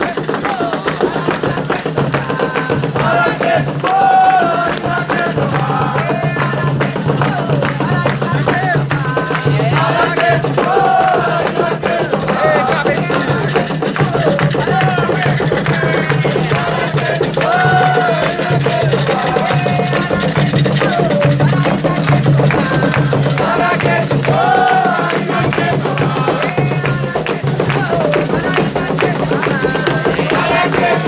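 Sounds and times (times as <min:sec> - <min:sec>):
drumming: 0:00.0 - 0:31.0
voices singing a chant: 0:00.0 - 0:31.0.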